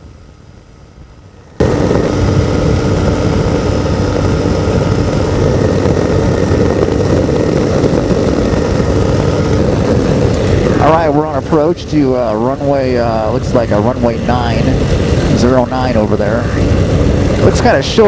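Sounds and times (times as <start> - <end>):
aircraft engine and propeller drone: 0.0 - 18.0
wind rush: 0.0 - 18.0.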